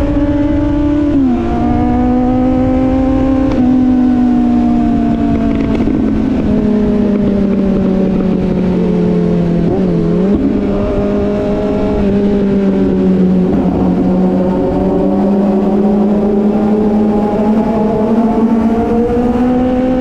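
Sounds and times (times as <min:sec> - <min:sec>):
heavy wind noise: 0:00.0 - 0:20.0
motorcycle engine cruising: 0:00.0 - 0:20.0.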